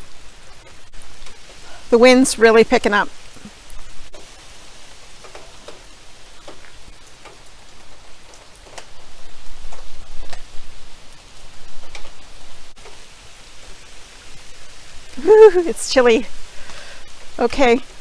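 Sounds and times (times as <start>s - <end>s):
heavy rain falling: 0.0s - 18.0s
sharp drips: 0.0s - 18.0s.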